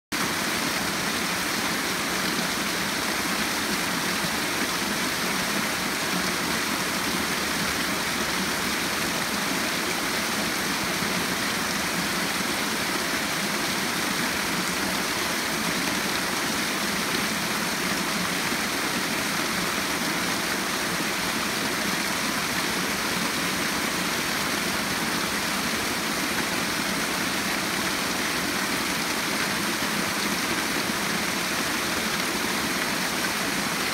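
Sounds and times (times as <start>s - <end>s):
creek rushing over rocks: 0.1s - 33.9s.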